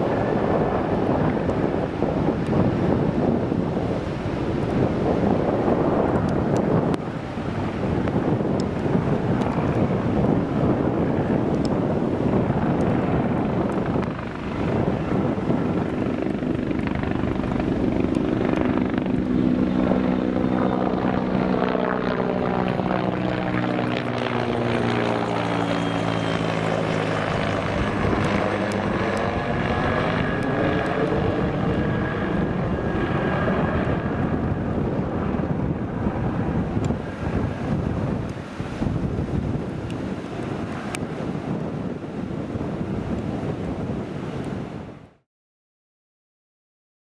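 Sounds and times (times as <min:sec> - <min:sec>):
helicopter flying overhead: 0:00.0 - 0:45.2.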